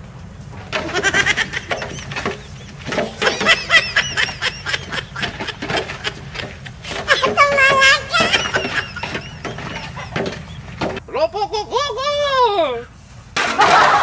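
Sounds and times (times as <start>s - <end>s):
high-pitched laugh-like squeals: 0.8s - 12.4s.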